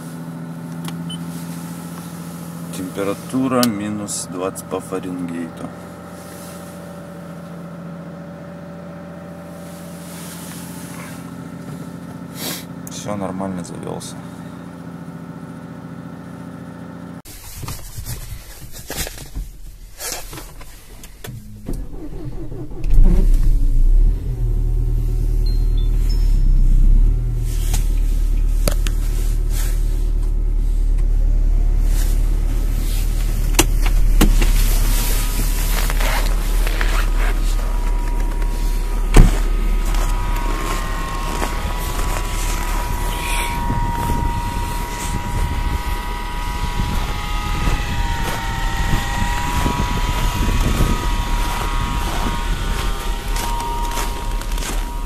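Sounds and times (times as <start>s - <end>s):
car engine starting and idling: 0.0s - 17.2s, 18.4s - 55.0s.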